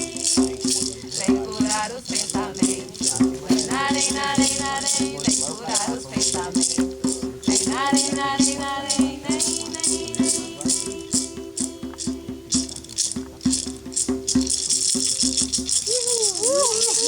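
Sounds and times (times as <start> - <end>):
hand rattle shaken rhythmically: 0.0 - 17.0.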